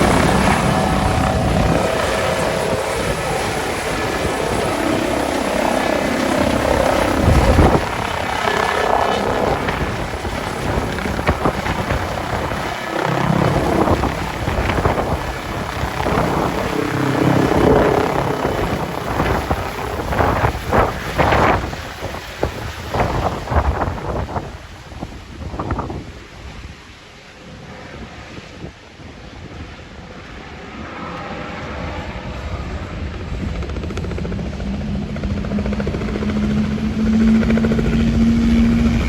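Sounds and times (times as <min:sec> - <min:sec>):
helicopter rotor and turbine: 0:00.0 - 0:39.0.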